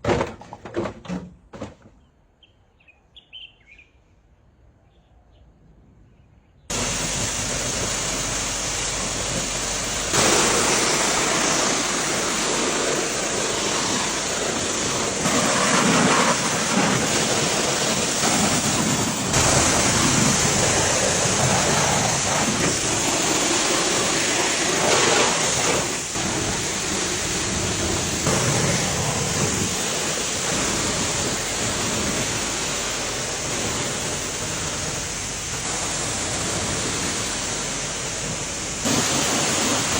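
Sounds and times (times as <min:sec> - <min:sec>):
pressure washer spraying water: 0:06.7 - 0:39.9.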